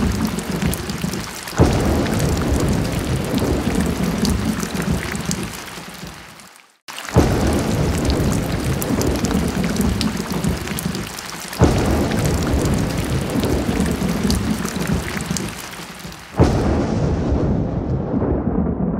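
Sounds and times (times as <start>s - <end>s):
thunder rumbling: 0.0s - 5.6s, 7.1s - 15.6s, 16.4s - 18.9s
heavy rain pouring: 0.0s - 17.4s.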